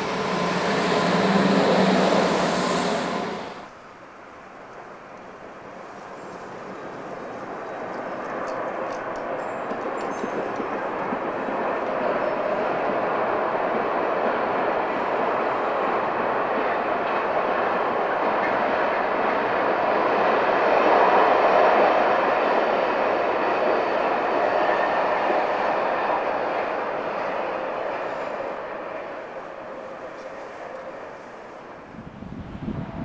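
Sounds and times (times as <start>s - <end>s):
train wheels rumbling on rails: 0.0s - 3.8s, 4.6s - 33.0s.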